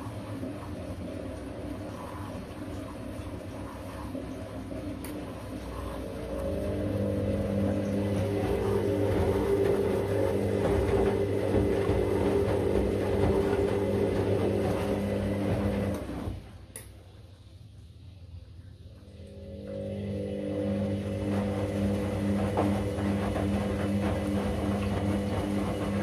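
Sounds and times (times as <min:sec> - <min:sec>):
water and laundry sloshing: 0:00.0 - 0:17.4, 0:18.9 - 0:26.0
washing machine motor hum: 0:00.0 - 0:26.0.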